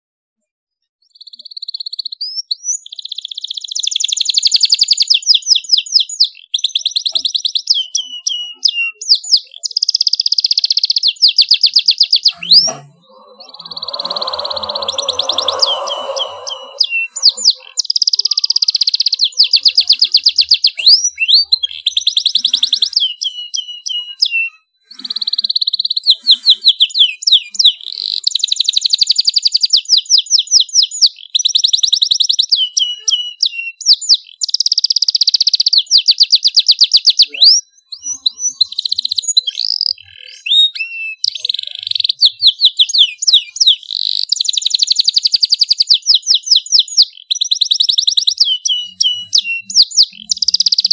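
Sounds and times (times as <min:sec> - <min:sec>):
canary singing trills: 0:01.0 - 0:50.9.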